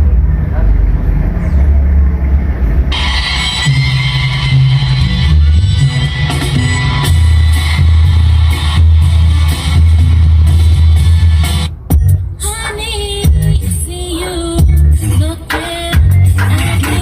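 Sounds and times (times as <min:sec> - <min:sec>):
loud car stereo music with booming bass: 0:00.0 - 0:17.0.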